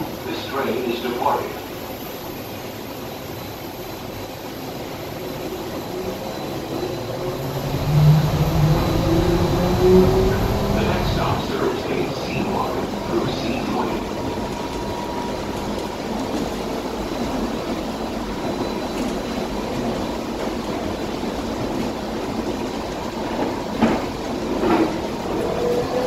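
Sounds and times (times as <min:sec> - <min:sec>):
people mover cabin running noise: 0:00.0 - 0:26.0.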